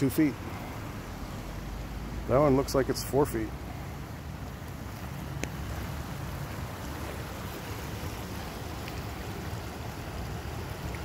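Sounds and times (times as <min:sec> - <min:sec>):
runoff water rushing: 0:00.0 - 0:11.0.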